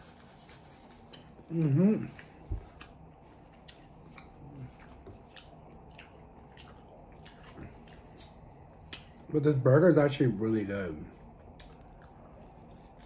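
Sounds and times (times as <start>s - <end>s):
close-up chewing: 0.0s - 9.3s, 11.2s - 13.0s.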